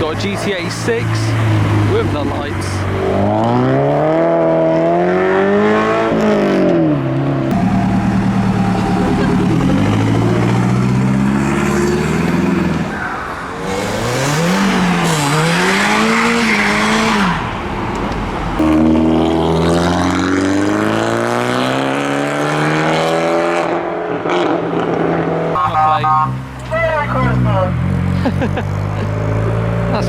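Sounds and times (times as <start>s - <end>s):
car engine pulling away: 0.0s - 25.5s
car engine revving: 0.0s - 30.0s.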